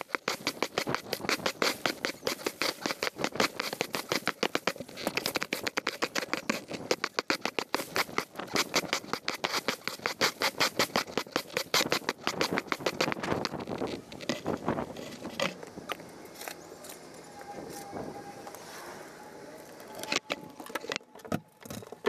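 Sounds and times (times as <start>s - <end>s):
push broom scraping concrete: 0.0s - 21.2s
leaves rustling: 0.0s - 22.0s.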